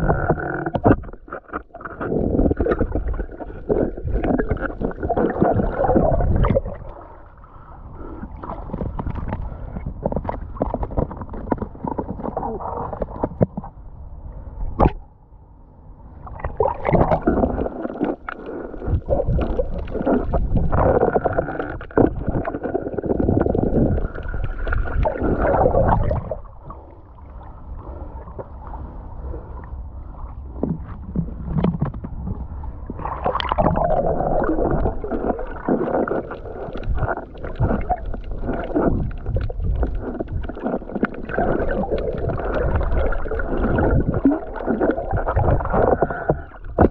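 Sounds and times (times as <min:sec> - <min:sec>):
sea water sloshing and gurgling: 0:00.0 - 0:15.2, 0:16.0 - 0:46.9.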